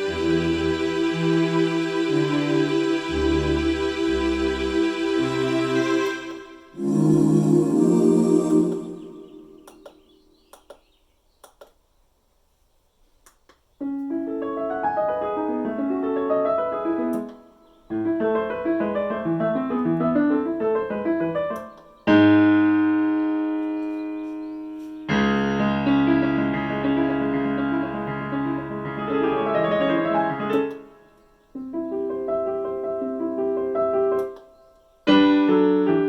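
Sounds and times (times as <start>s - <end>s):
digital piano playing: 0.0s - 10.2s, 13.8s - 36.0s.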